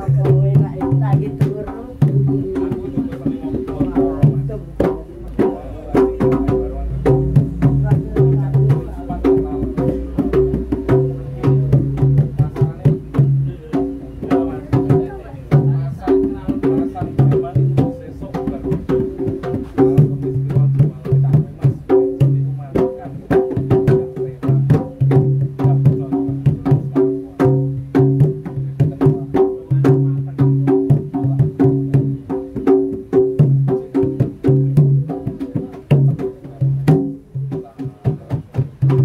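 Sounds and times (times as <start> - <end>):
drum and percussion music: 0.0 - 39.0.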